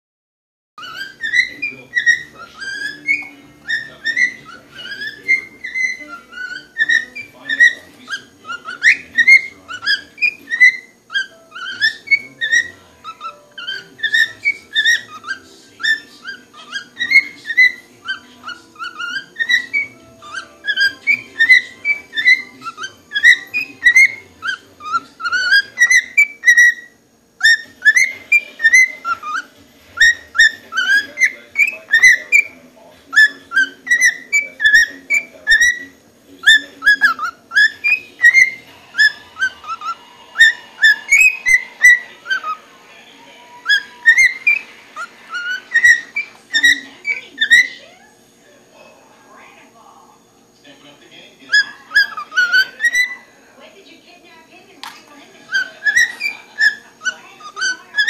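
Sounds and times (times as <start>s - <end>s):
cockatiel whistling: 0.8s - 42.7s, 43.4s - 48.1s, 51.4s - 53.3s, 55.4s - 58.0s.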